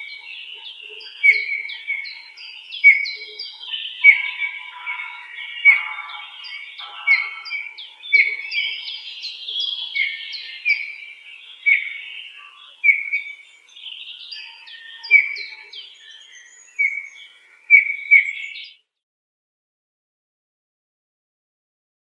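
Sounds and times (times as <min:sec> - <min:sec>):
bird chatter: 0:00.0 - 0:18.8.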